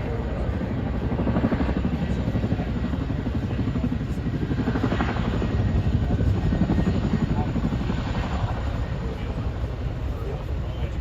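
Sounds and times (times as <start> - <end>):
engine and rotor rumble: 0.0 - 11.0
helicopter rotor chop: 0.0 - 11.0.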